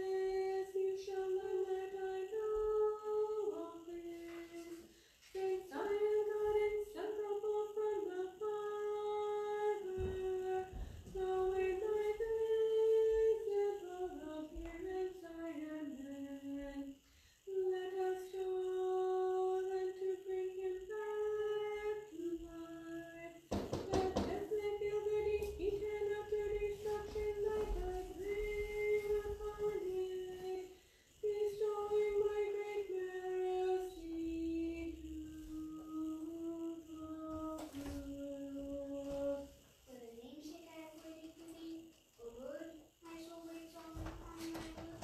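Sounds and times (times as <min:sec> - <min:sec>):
woman chanting a hymn: 0:00.0 - 0:45.0.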